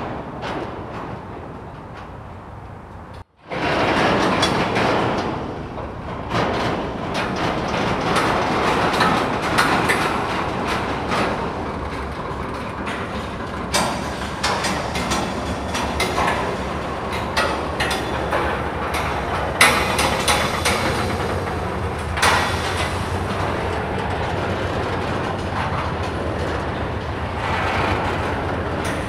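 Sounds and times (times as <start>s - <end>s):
train running gear clanking: 0.0s - 29.0s
train wheels rumbling: 0.0s - 29.0s.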